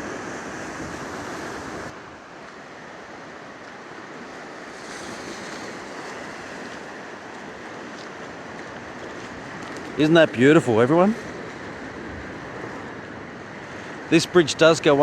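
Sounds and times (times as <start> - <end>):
fast-flowing river water: 0.0 - 15.0.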